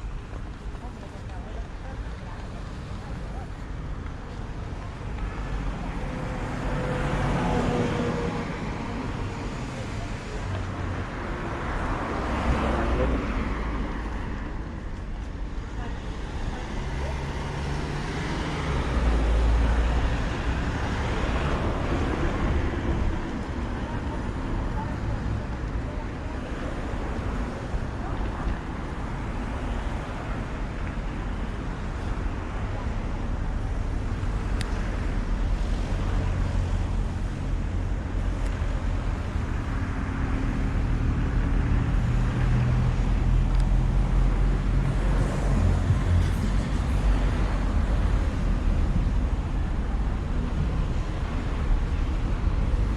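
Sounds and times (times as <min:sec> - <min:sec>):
street traffic engine hum: 0:00.0 - 0:52.9.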